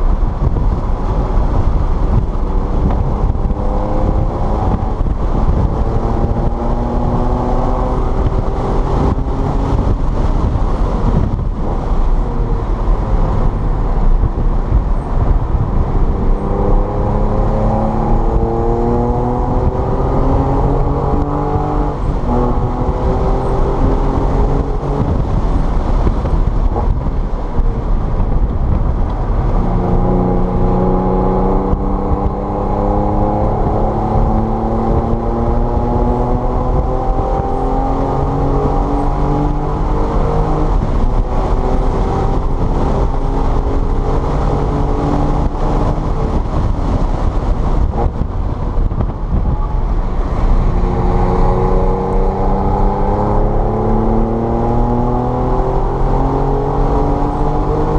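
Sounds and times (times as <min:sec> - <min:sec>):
car engine accelerating hard: 0:00.0 - 0:57.9
road and wind rumble: 0:00.0 - 0:57.9.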